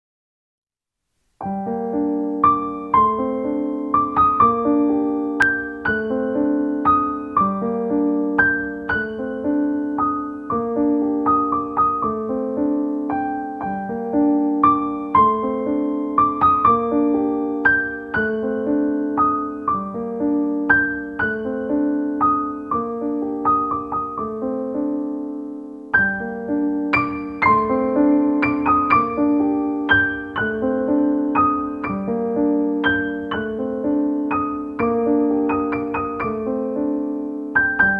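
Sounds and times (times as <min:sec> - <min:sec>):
solo piano music: 0:01.0 - 0:37.9.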